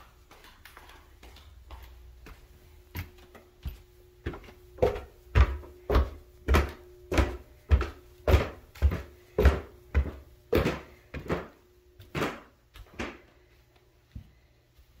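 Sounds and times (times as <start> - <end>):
faint steady hum: 0.0 - 15.0
footsteps on wooden stairs: 0.2 - 13.5.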